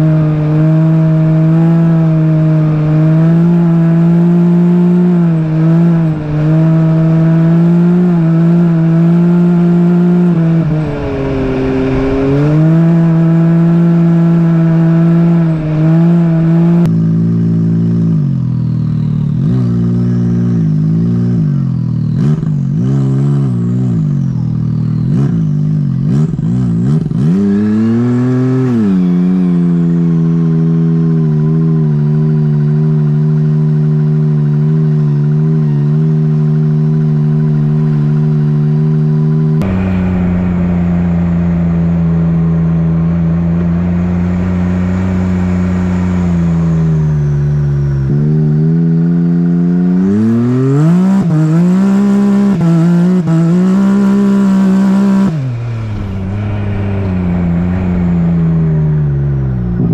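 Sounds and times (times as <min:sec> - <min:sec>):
utv engine revving: 0:00.0 - 0:59.9.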